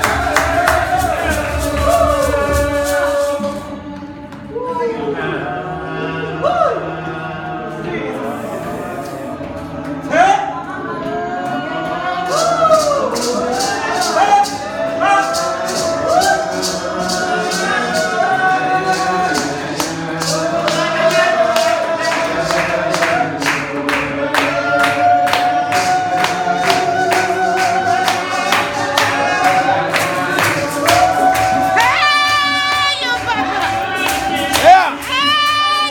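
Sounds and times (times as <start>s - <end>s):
percussion beat: 0.0s - 4.5s, 11.0s - 35.9s
group gospel singing: 0.0s - 35.9s.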